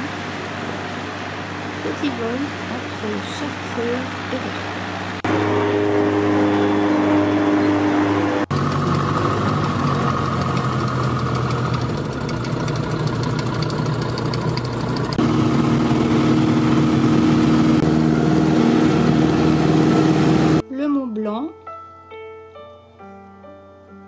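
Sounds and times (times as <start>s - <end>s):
light aircraft engine and propeller: 0.0s - 20.6s.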